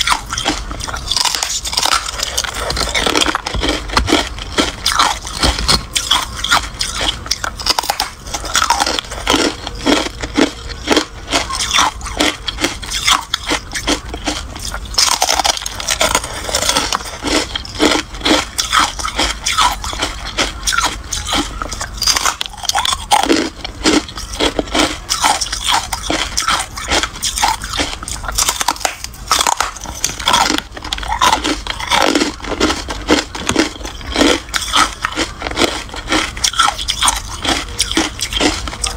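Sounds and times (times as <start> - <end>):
ice crunching in mouth: 0.0 - 38.9.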